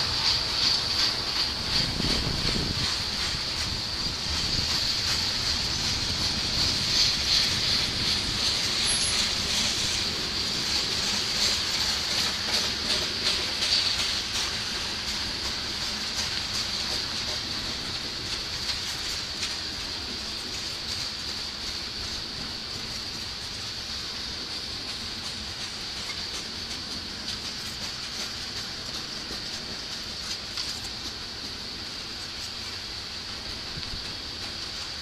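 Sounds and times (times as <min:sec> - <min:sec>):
freight train rumbling: 0:00.0 - 0:35.0
wheels clicking over rail joints: 0:00.0 - 0:35.0.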